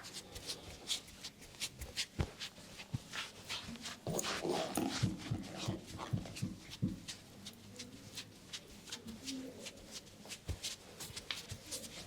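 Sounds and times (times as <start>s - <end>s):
hair rustling: 0.0s - 12.0s.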